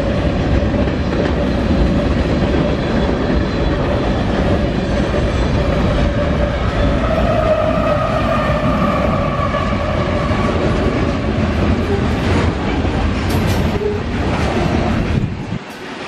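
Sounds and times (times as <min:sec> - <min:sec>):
diesel locomotive engine: 0:00.0 - 0:16.0.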